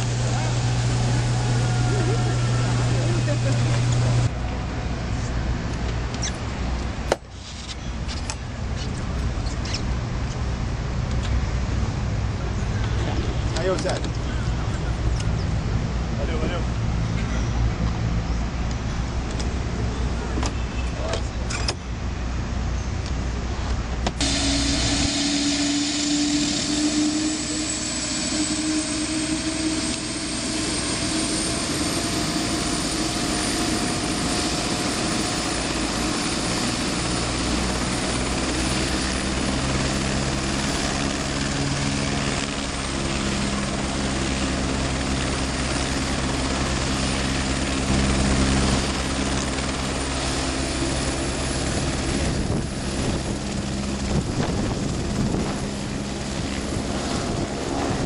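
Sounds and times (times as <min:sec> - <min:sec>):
helicopter turbine whine: 0:00.0 - 0:58.0.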